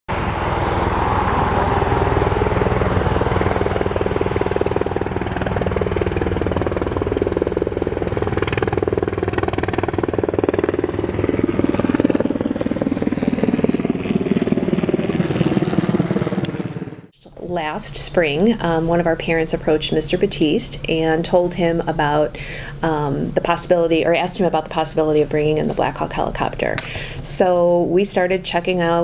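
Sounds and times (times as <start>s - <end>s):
helicopter engine tone: 0.1s - 17.2s, 17.8s - 27.5s
helicopter rotor beat: 0.1s - 29.0s.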